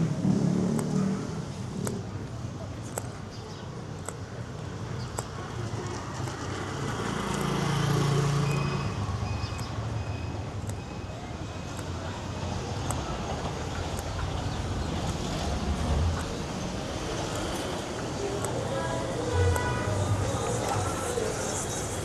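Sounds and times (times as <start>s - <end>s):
vehicle engine passing: 0.0s - 2.3s, 5.7s - 22.0s
traffic hum: 0.0s - 22.0s.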